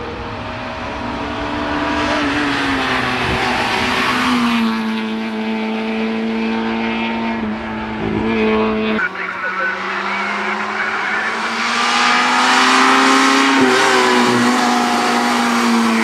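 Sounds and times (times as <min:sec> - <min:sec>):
car engine running hard: 0:00.0 - 0:16.0
road and exhaust noise: 0:00.0 - 0:16.0.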